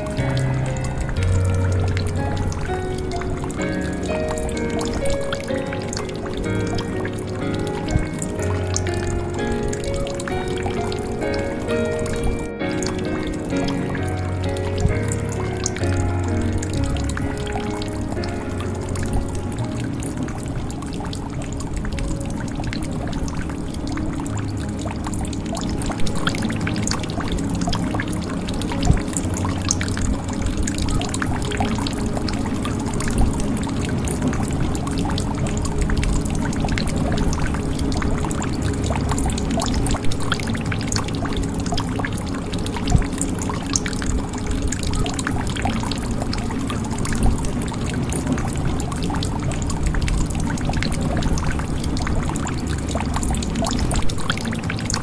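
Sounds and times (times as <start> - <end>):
water drips: 0.0 - 55.0
water pouring into a jug: 0.0 - 55.0.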